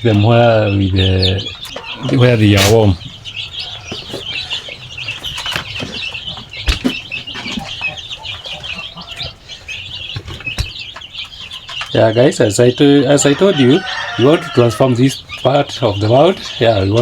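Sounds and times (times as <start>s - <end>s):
chicks peeping: 0.0s - 17.0s
hen clucking: 0.0s - 17.0s.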